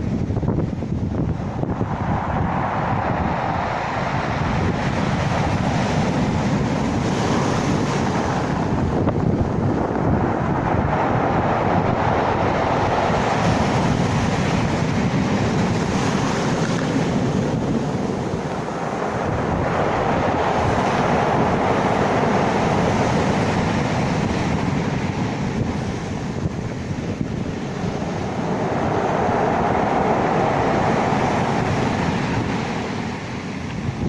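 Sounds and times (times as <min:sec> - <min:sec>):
sea surf washing: 0:00.0 - 0:34.0
wind rumbling on microphone: 0:00.0 - 0:34.0.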